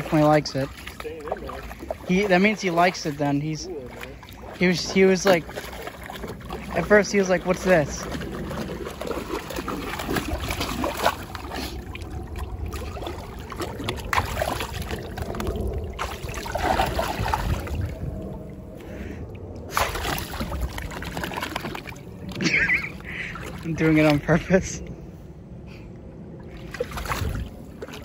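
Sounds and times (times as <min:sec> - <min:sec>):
water sloshing and splashing: 0:00.0 - 0:25.0, 0:26.2 - 0:28.0.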